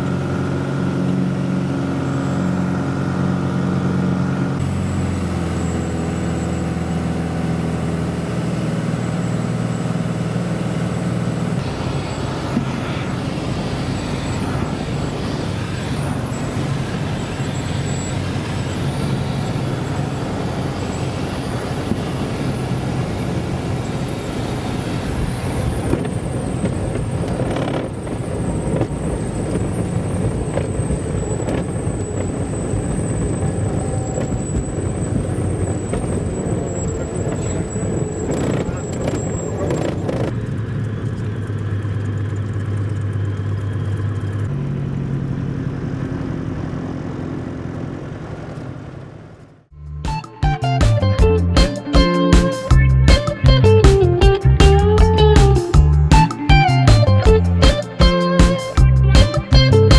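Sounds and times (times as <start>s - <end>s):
airplane engine droning in cabin: 0.0s - 49.7s.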